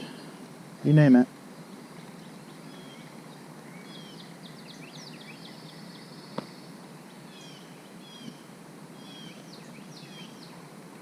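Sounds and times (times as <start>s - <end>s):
small birds chirping: 0.0s - 11.0s
steady outdoor hiss: 0.0s - 11.0s.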